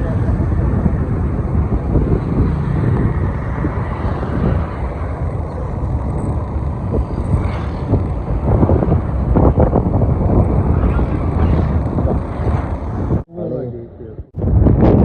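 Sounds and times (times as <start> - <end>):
vehicle road noise: 0.0 - 13.5
wind buffeting microphone: 0.0 - 15.0.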